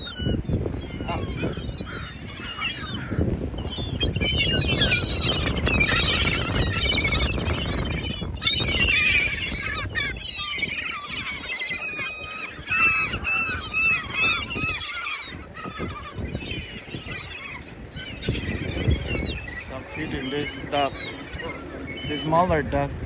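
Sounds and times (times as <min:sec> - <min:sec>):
geese honking: 0:00.0 - 0:23.0.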